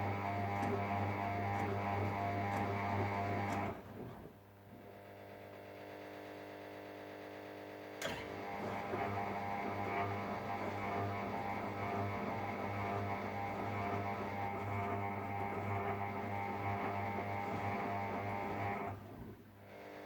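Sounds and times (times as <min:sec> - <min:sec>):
washing machine drum motor humming: 0:00.0 - 0:04.9, 0:08.0 - 0:19.6.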